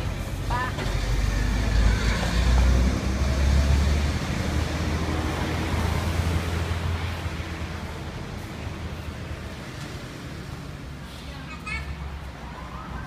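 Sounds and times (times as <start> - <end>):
passing motor vehicle engine: 0.0 - 13.0.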